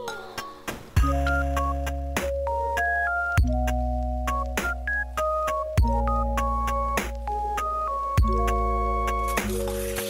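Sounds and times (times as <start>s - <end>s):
synthesizer melody: 1.0s - 10.0s.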